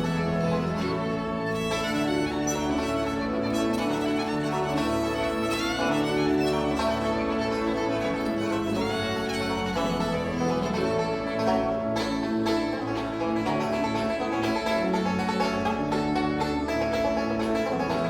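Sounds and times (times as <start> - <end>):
banjo picking: 0.0 - 18.0
fiddle: 0.0 - 18.0
guitar: 0.0 - 18.0.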